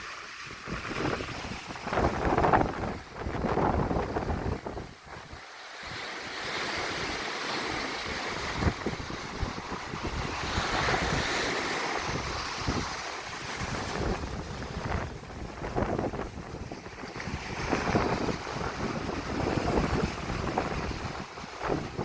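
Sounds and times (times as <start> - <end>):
waves breaking on a beach: 0.0 - 22.0
wind buffeting microphone: 0.0 - 22.0.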